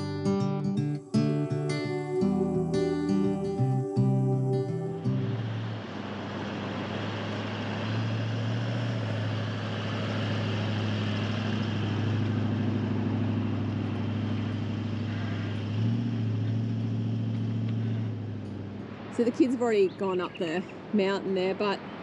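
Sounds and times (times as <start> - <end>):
vehicle engine low hum: 0.0 - 21.2.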